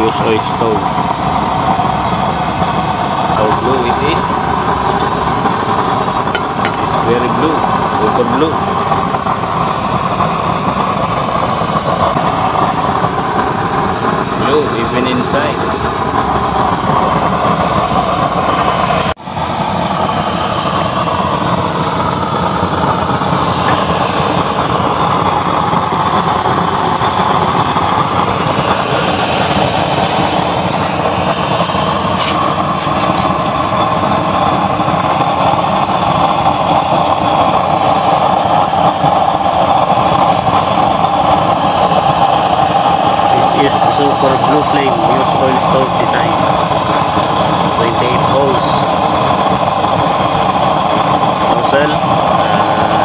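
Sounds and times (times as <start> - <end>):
oil burner roaring: 0.0 - 53.0.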